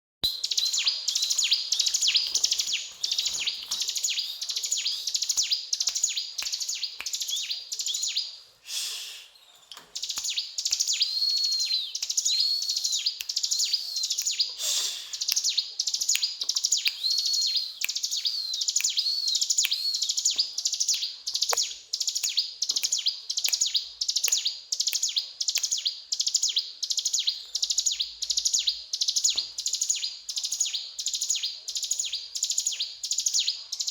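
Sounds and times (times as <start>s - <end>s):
bird chirping and trilling: 0.2s - 8.4s, 9.2s - 33.9s.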